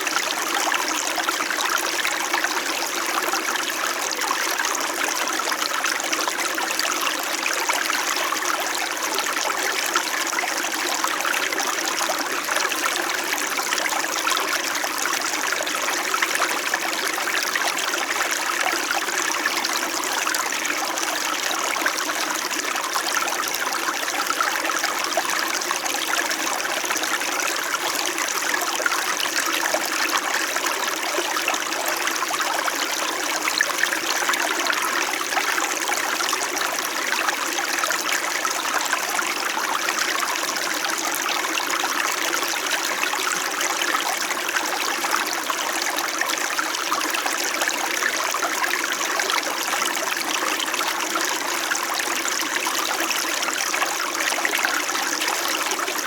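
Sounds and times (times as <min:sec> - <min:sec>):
stream water babbling: 0:00.0 - 0:56.0.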